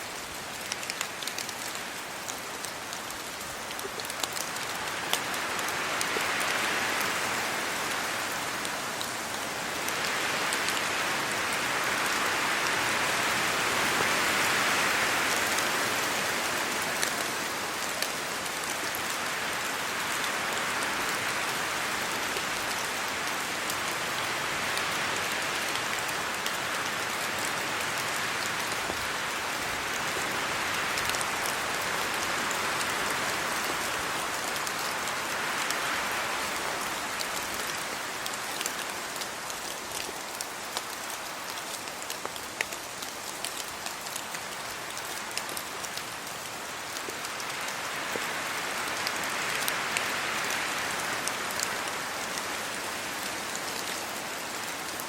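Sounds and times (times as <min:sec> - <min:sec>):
rain on leaves and ground: 0:00.0 - 0:55.0
wind through trees: 0:00.0 - 0:55.0.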